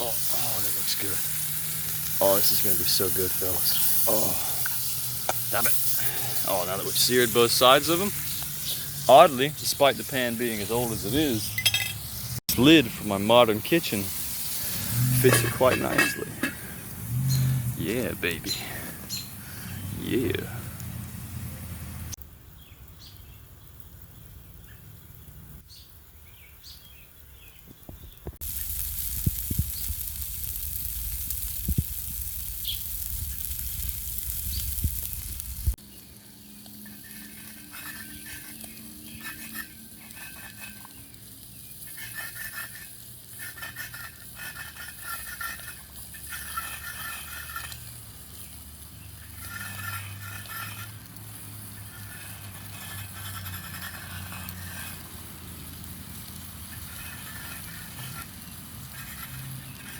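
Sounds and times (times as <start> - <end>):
meat sizzling in a pan: 0.0 - 17.8, 28.3 - 59.9.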